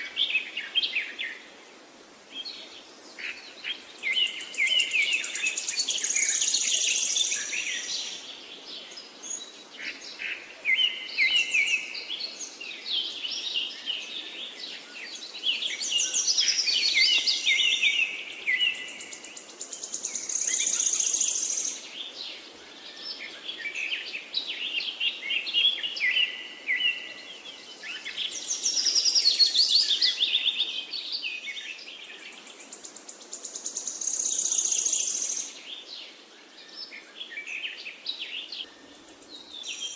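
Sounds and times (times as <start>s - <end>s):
birds chirping and trilling: 2.3s - 39.9s.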